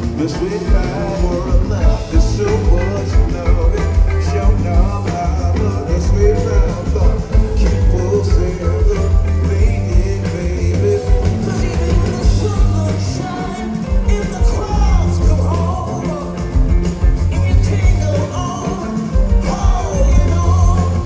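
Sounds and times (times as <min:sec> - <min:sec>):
heavy bass line: 0:00.0 - 0:21.0
person singing lead vocal: 0:00.0 - 0:21.0
rock band playing live: 0:00.0 - 0:21.0.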